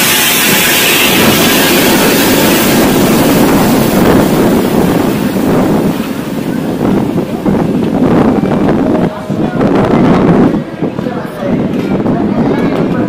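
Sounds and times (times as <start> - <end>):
diesel locomotive engine: 0.0 - 13.0
passenger coaches rolling: 0.0 - 13.0.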